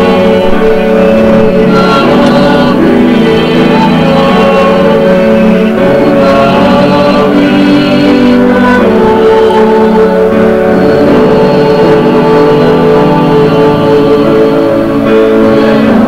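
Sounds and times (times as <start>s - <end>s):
instrumental church hymn music: 0.0s - 16.0s.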